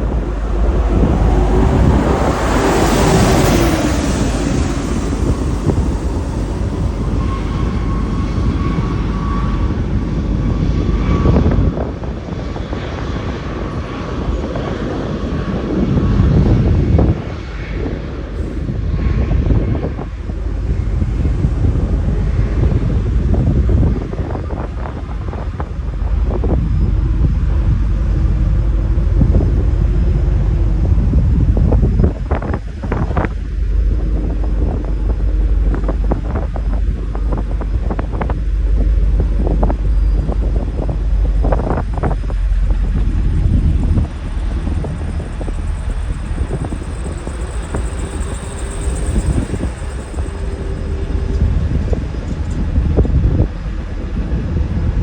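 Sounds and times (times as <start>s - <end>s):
faint high whine: 0.0s - 16.4s, 18.4s - 54.6s
jet airliner rumble: 0.0s - 55.0s
wind buffeting microphone: 0.0s - 55.0s.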